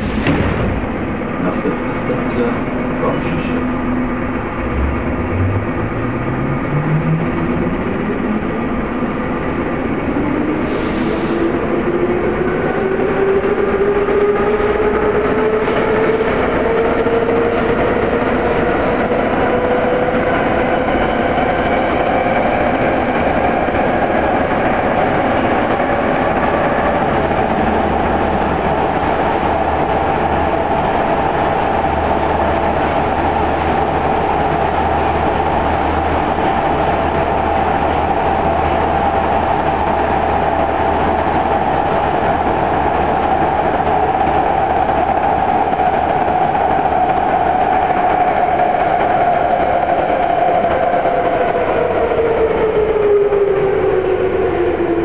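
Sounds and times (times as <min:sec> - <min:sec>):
wheel and track running noise: 0:00.0 - 0:55.0.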